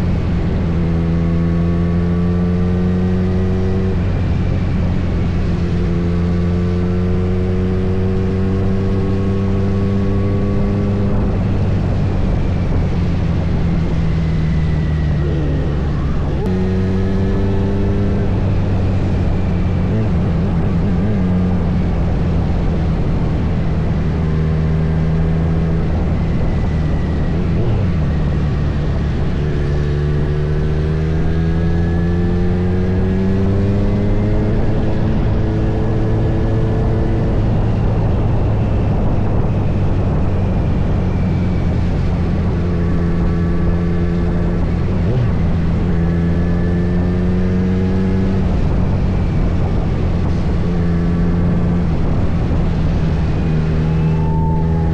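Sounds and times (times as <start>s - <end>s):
motorcycle engine accelerating: 0.0s - 54.9s
wind rush on microphone: 0.0s - 54.9s.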